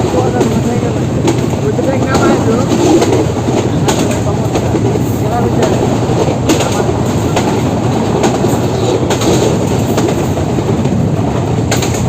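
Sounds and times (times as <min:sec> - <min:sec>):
train rumbling on track: 0:00.0 - 0:12.0
wheels clicking over rail joints: 0:00.0 - 0:12.0.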